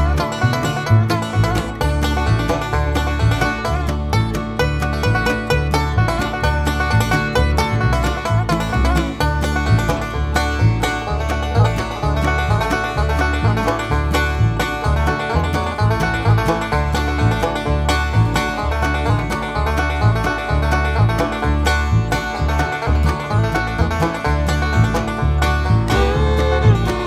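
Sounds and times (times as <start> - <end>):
bass line: 0.0 - 27.0
guitar: 0.0 - 27.0
plucked banjo: 0.0 - 27.0
upbeat bluegrass music: 0.0 - 27.0.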